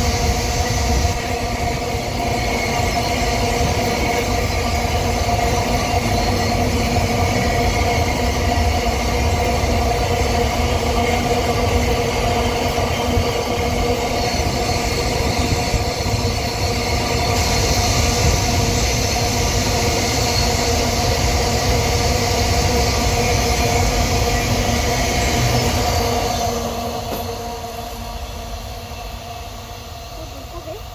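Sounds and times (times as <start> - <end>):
wheels rumbling on rail: 0.0 - 30.9.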